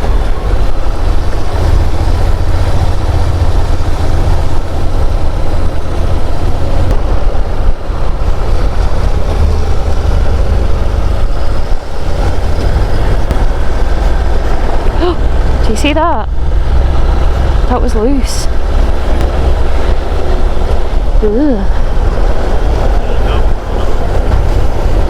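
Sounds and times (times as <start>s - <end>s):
motorcycle engine running: 0.0s - 25.0s
wind buffeting: 0.0s - 25.0s.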